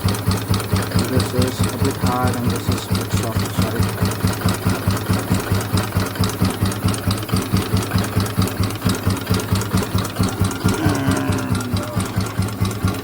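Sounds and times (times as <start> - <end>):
motorcycle engine idling: 0.0 - 13.0
timing gears rhythmic clatter: 0.0 - 13.0.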